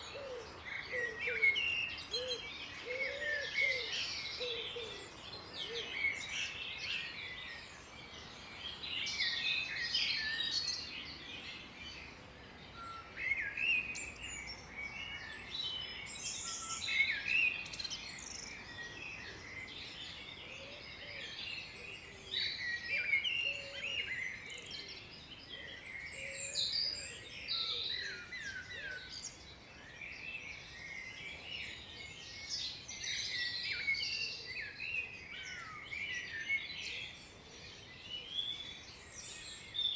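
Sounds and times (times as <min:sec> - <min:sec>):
faint outdoor hiss: 0:00.0 - 0:39.9
songbirds chirping and trilling: 0:00.0 - 0:39.9.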